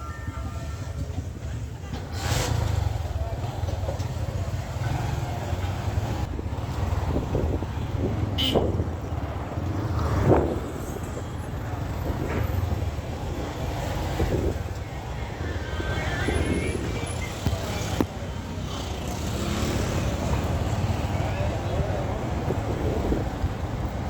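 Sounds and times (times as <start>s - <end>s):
motorcycle engine rumbling: 0.0s - 24.0s
road noise: 0.0s - 24.0s.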